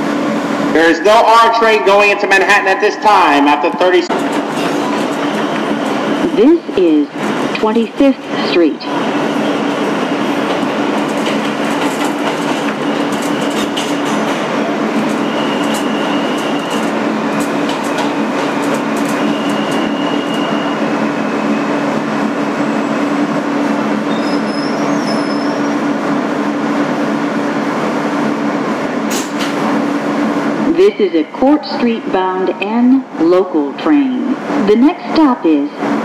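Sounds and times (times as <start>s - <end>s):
steady subway car noise: 0.0s - 36.0s.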